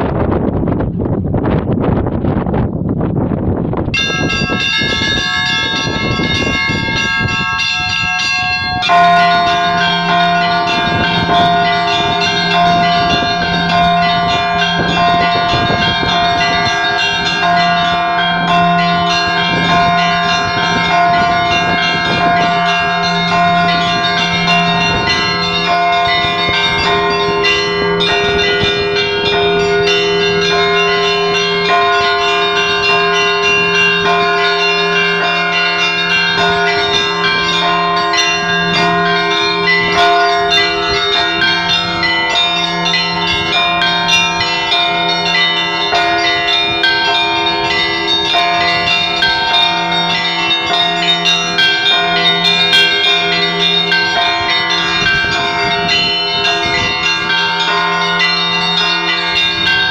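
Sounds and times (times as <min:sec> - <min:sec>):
large deep bells pealing: 0:00.0 - 0:59.9
small bells chiming rapidly: 0:03.9 - 0:59.9.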